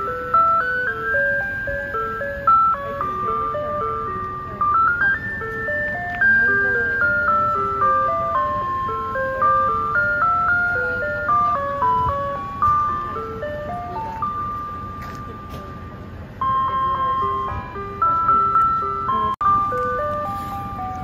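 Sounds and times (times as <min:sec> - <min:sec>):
cheerful jingle music: 0:00.0 - 0:21.0.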